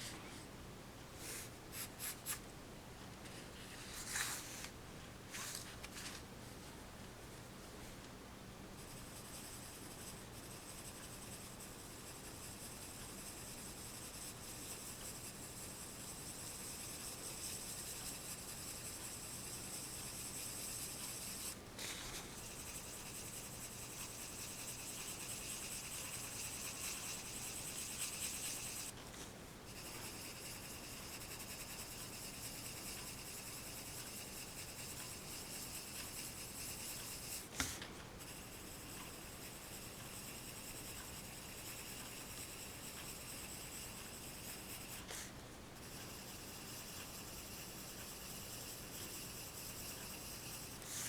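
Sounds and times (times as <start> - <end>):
pencil scratching on paper: 8.8 - 29.0, 29.7 - 51.0.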